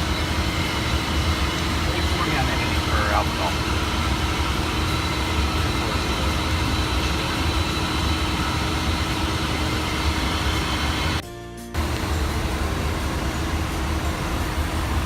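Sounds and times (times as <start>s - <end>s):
jet engines rumbling: 0.0s - 11.2s, 11.8s - 15.0s
steady cabin hum: 0.0s - 11.2s, 11.8s - 15.0s.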